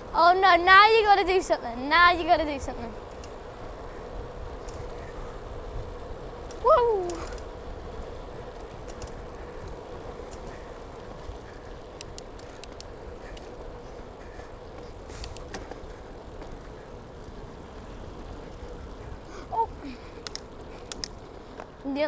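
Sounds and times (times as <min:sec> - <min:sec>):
road noise rumble: 0:00.0 - 0:22.0
faint clicks: 0:02.4 - 0:21.9.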